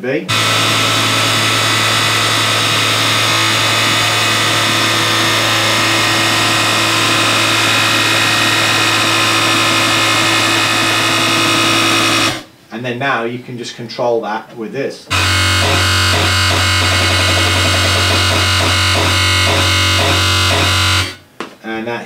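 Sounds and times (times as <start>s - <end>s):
sine sub-bass: 0.3s - 12.5s, 15.1s - 21.2s
synth wobble bass: 0.3s - 12.5s, 15.1s - 21.2s.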